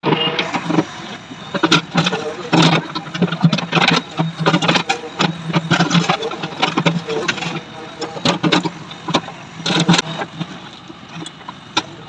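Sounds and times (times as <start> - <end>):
engine-like hum: 0.0 - 12.0
sharp clicks and knocks: 0.0 - 12.0.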